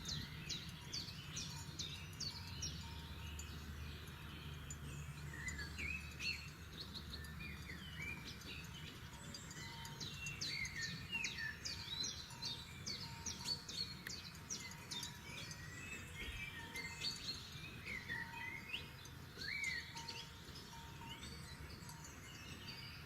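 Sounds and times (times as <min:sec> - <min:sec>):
songbirds singing and chirping: 0:00.0 - 0:23.0.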